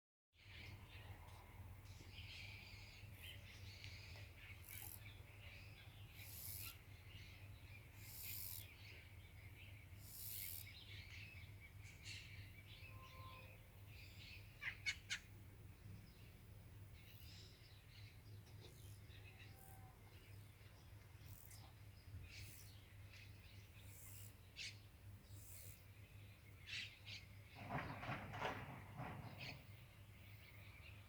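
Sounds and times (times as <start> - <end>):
songbirds chirping: 0.4 - 31.0.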